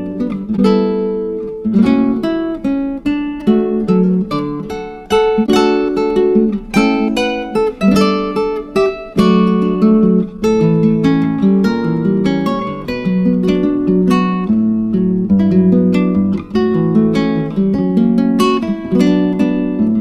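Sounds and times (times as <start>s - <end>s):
acoustic guitar strummed: 0.0s - 20.0s.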